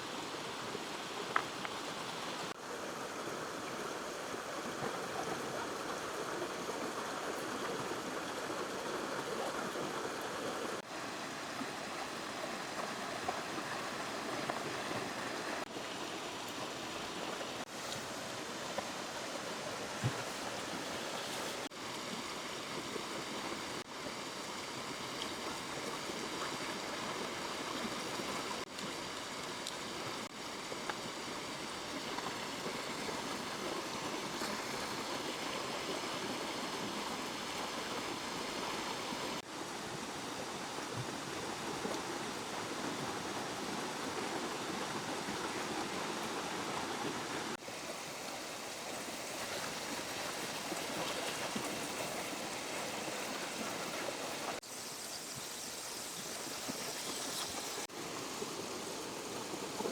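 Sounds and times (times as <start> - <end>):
river rushing over stones: 0.1 - 21.8, 24.3 - 54.6.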